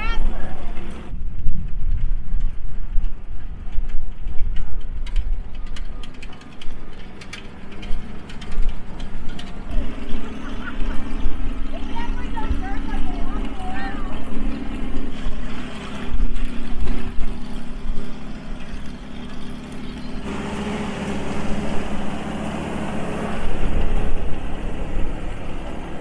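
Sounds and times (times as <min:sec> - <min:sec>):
tractor engines running: 0:00.0 - 0:26.0.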